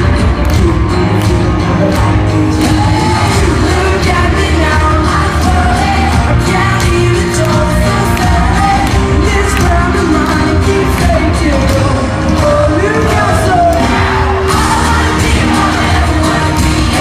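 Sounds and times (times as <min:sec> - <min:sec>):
live pop-rock band: 0:00.0 - 0:17.0
person singing: 0:00.0 - 0:17.0
steady drum beat: 0:00.0 - 0:17.0.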